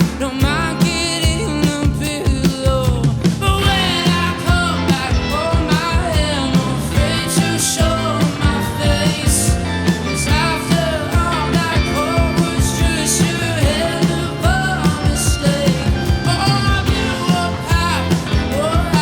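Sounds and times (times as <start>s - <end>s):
drums beating: 0.0s - 19.0s
person singing: 0.0s - 19.0s
rock band playing: 0.0s - 19.0s.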